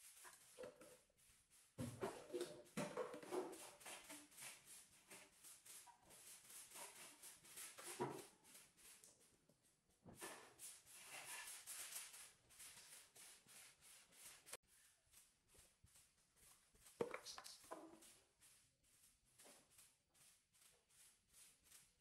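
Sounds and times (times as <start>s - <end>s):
broom sweeping tiled floor: 0.0s - 22.0s.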